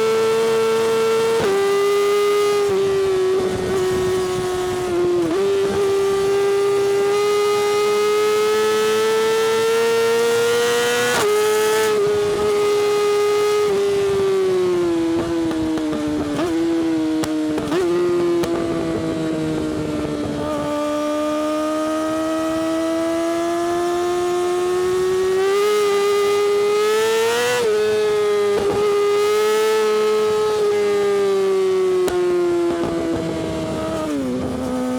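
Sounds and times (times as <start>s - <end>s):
motorcycle engine at high revs: 0.0s - 34.9s.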